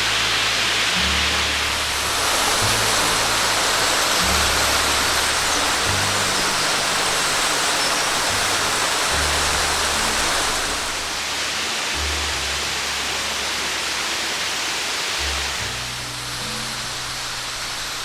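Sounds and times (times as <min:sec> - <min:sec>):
low background music: 0:00.0 - 0:18.0
waterfall rushing: 0:00.0 - 0:18.0.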